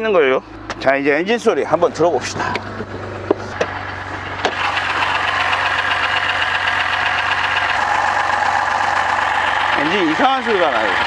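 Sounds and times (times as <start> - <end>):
car engine idling with grinding: 0.0 - 11.0.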